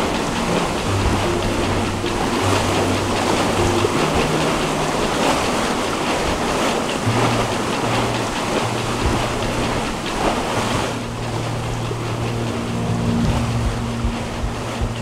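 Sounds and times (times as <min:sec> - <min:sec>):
water rushing along boat hull: 0:00.0 - 0:15.0.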